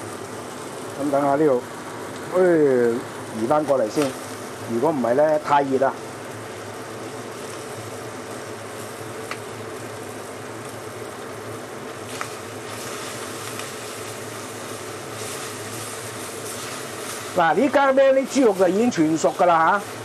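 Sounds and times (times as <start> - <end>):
meat frying in clay pot: 0.0 - 20.0.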